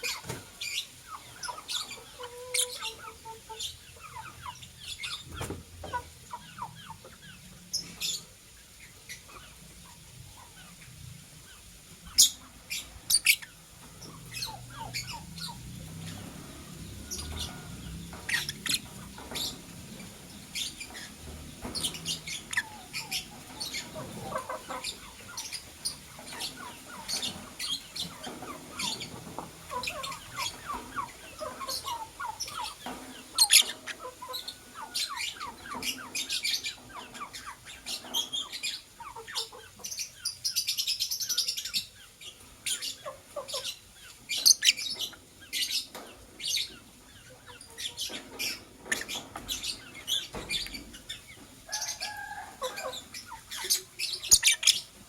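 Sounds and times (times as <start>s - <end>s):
lovebirds chirping: 0.0s - 55.0s.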